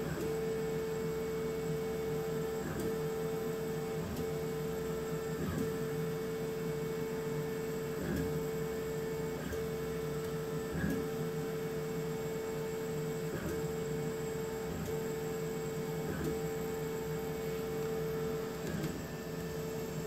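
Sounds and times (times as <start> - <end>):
laser cutter hum and whine: 0.0 - 20.0.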